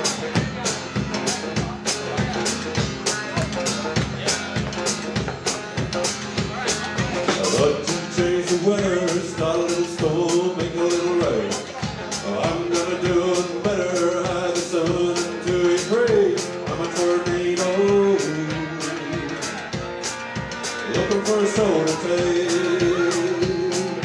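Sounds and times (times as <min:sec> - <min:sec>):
country-rock band playing: 0:00.0 - 0:24.0
long sliding guitar notes: 0:00.0 - 0:24.0.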